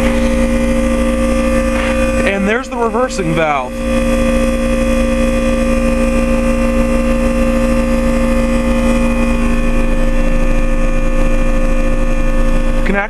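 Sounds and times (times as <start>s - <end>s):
heat pump compressor humming: 0.0s - 13.0s.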